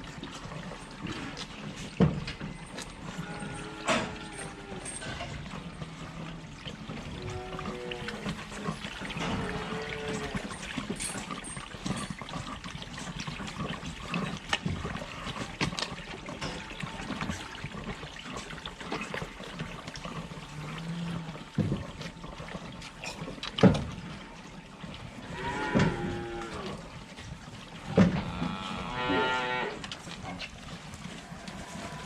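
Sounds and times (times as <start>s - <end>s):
water splashing and trickling: 0.0s - 32.0s.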